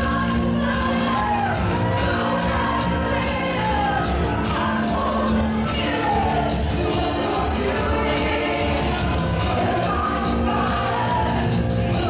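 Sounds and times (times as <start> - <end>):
live worship band playing: 0.0 - 12.0.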